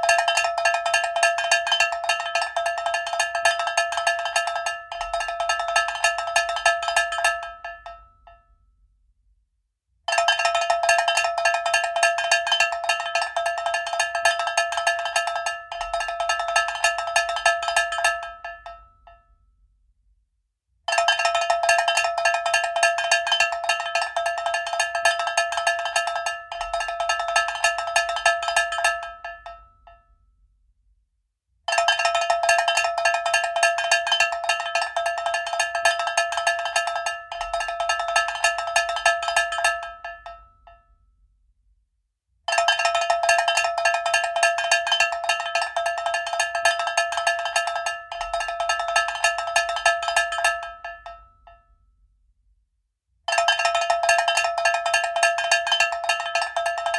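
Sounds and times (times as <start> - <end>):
cowbell clanging: 0.0 - 8.0, 10.1 - 18.8, 21.0 - 29.6, 31.8 - 40.4, 42.5 - 51.2, 53.3 - 56.9.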